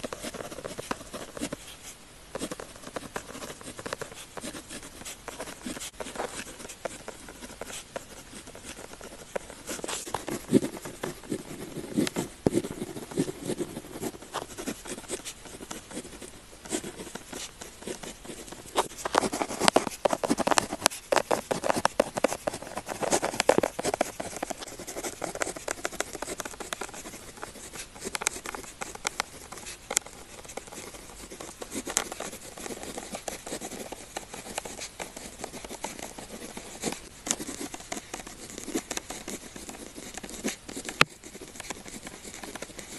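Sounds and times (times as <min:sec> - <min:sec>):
pen scratching on paper: 0:00.0 - 0:42.9.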